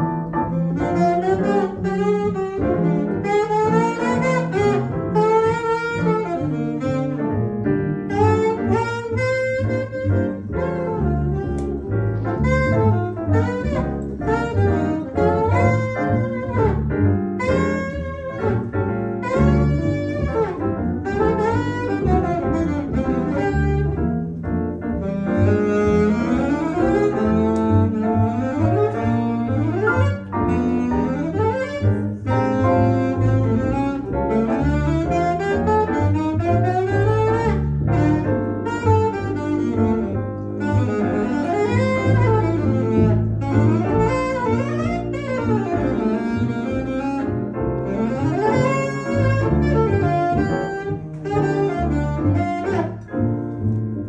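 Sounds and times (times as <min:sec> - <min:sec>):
saxophone melody: 0:00.0 - 0:53.8
walking double bass: 0:00.0 - 0:54.0.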